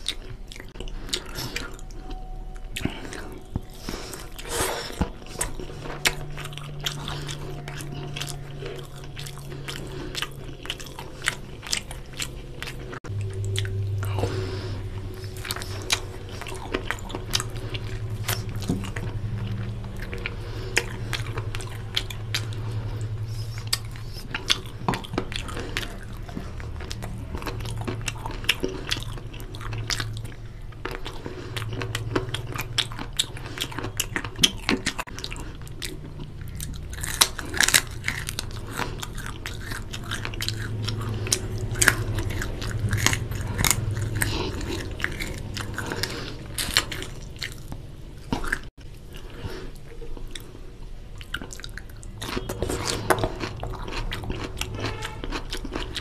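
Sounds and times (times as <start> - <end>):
person chewing meat: 0.0 - 56.0.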